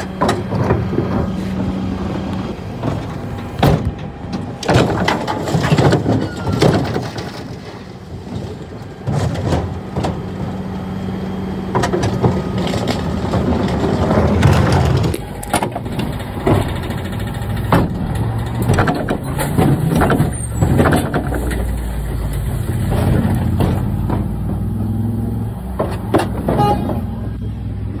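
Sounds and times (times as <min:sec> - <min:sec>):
bins clanking: 0:00.0 - 0:10.6, 0:11.8 - 0:24.9, 0:25.7 - 0:27.3
diesel engine running: 0:00.0 - 0:28.0.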